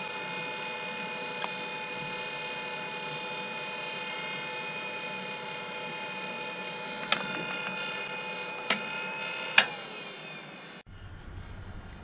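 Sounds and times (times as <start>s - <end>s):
motor whine: 0.0s - 12.0s.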